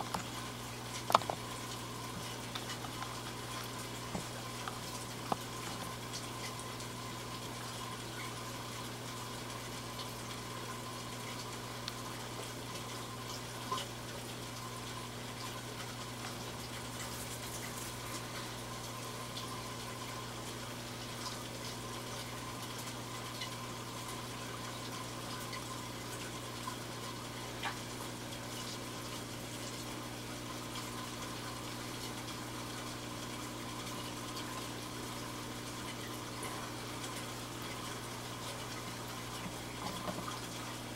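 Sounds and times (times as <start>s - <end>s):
aquarium water rushing: 0.0s - 40.9s
low pump hum: 0.0s - 40.9s.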